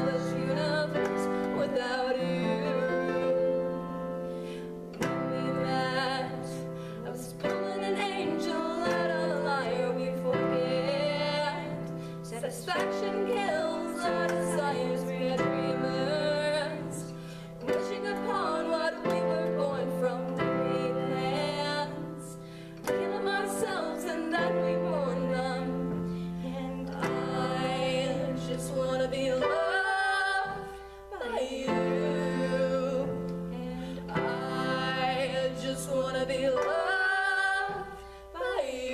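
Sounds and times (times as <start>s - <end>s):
digital piano chords: 0.0s - 38.9s
woman singing with vibrato: 0.0s - 38.9s.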